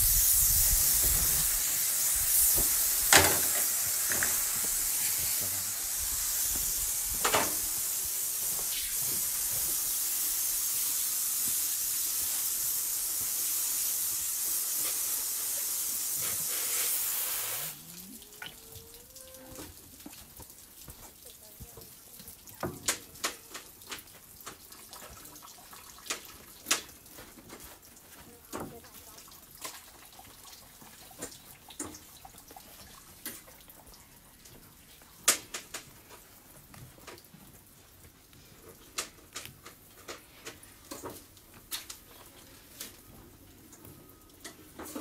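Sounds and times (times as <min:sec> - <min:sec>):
water spraying from a hose: 0:00.0 - 0:43.1.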